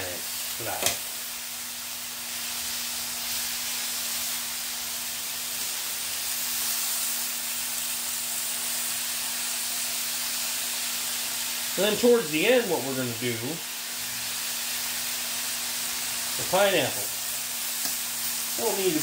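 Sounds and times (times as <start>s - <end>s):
chicken frying sizzle: 0.0s - 19.0s.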